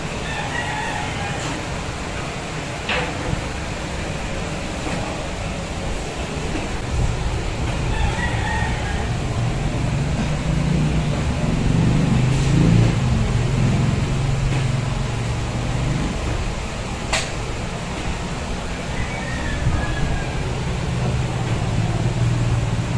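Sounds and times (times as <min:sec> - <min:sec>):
machine humming: 0:00.0 - 0:22.9.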